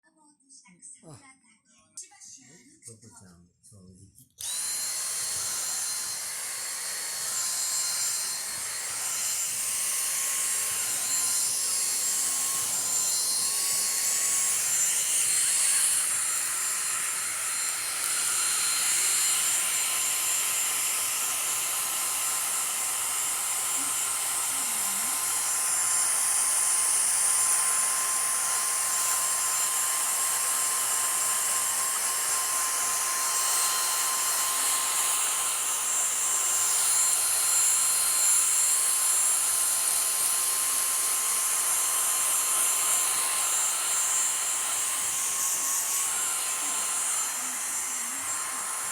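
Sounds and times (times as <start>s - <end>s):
vacuum cleaner whining: 4.4s - 48.9s.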